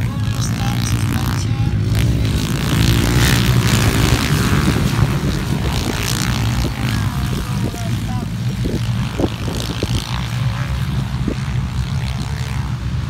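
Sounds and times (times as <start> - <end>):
motorcycle engines racing: 0.0 - 13.0.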